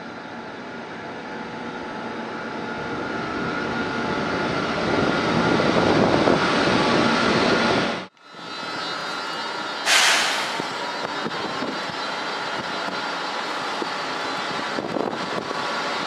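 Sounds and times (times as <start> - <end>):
electric locomotive running: 0.0 - 16.0
rushing rail noise: 0.0 - 16.0.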